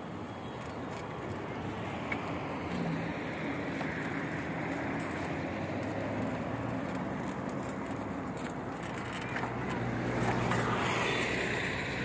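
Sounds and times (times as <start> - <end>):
bicycles riding on paved path: 0.0 - 12.0.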